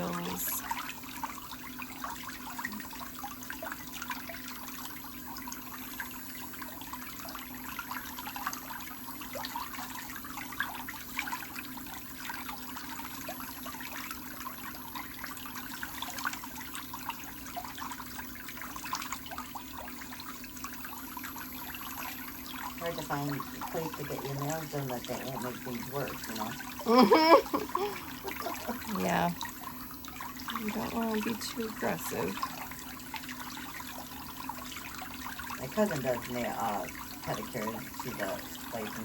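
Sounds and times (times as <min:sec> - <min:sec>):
water trickling and bubbling: 0:00.0 - 0:39.0.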